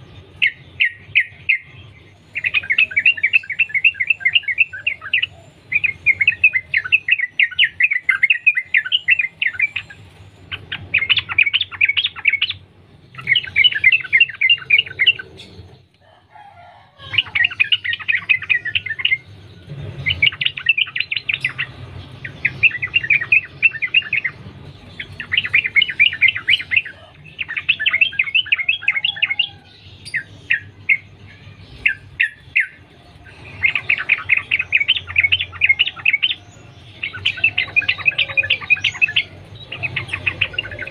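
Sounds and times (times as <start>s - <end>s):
bird singing chattering phrases: 0.0s - 16.0s, 17.0s - 40.9s.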